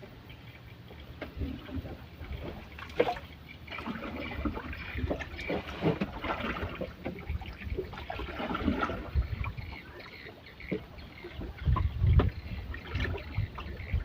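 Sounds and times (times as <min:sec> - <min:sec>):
water splashing around boat: 0:00.0 - 0:14.0.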